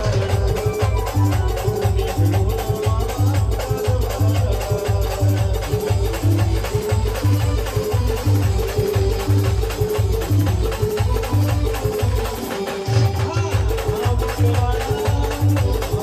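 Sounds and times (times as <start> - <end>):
heavy drum beat: 0.0 - 16.0
rattling percussion: 0.0 - 16.0.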